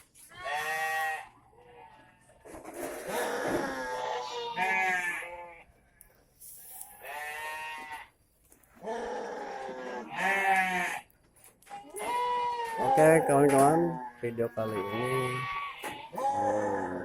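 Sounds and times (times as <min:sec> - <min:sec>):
goats bleating: 0:00.3 - 0:02.4, 0:03.0 - 0:05.7, 0:06.9 - 0:08.1, 0:08.8 - 0:11.1, 0:11.7 - 0:17.0.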